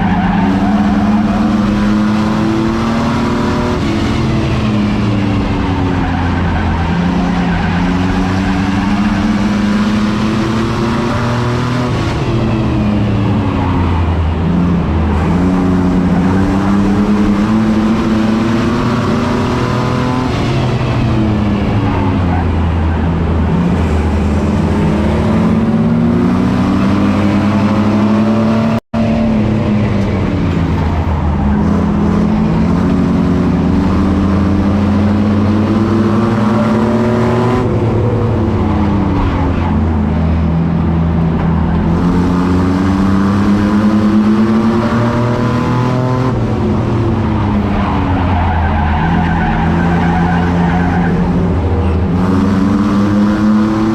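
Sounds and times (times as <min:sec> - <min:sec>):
race truck engine revving: 0:00.0 - 0:53.9.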